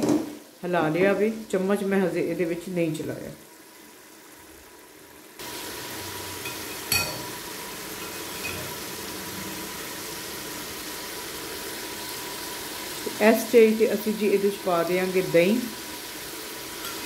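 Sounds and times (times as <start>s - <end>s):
curry sizzling in a pot: 0.0s - 17.0s.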